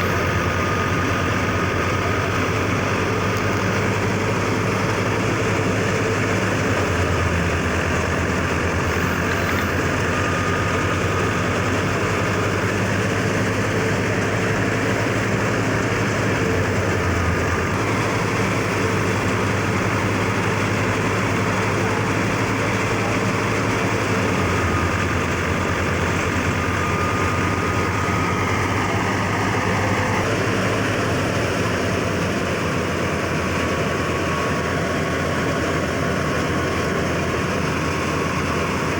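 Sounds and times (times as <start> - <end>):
tractor engine humming: 0.0 - 38.9.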